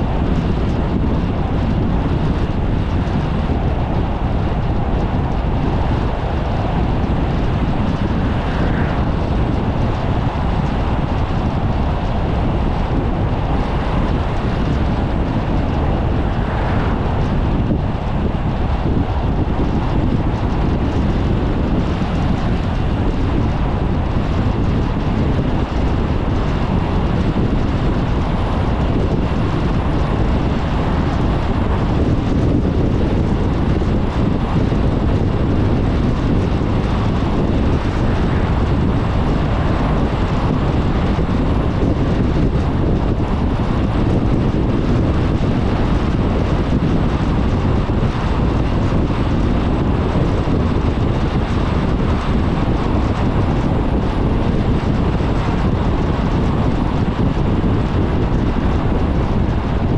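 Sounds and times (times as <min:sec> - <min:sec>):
air rushing past: 0:00.0 - 0:59.9.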